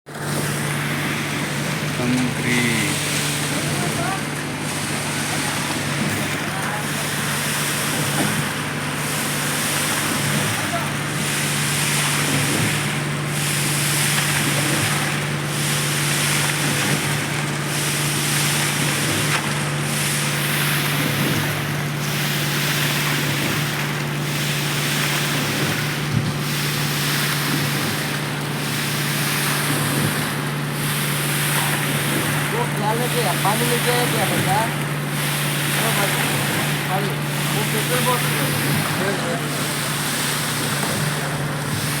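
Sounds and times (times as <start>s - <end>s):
machinery engine drone: 0.1s - 42.0s.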